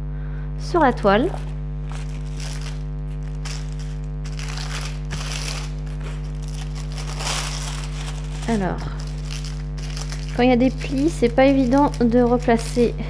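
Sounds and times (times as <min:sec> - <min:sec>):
steady electrical hum: 0:00.0 - 0:13.0
plastic film crinkling: 0:00.7 - 0:13.0.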